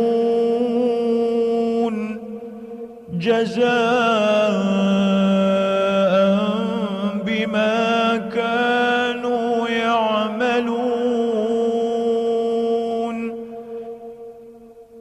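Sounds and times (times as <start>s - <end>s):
man reciting melodically: 0.0s - 14.3s.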